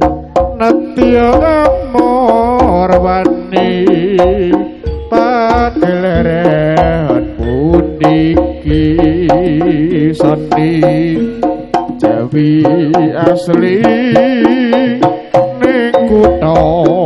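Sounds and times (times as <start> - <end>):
hand drum strokes: 0.0 - 17.0
pitched gamelan tones: 0.0 - 17.0
wavering melody line: 0.0 - 17.0.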